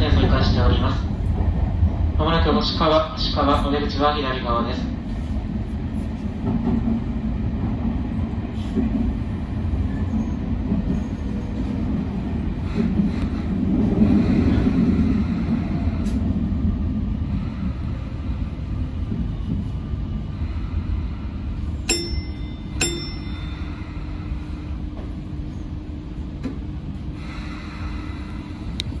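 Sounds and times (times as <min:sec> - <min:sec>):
electric train low rumble: 0:00.0 - 0:29.0.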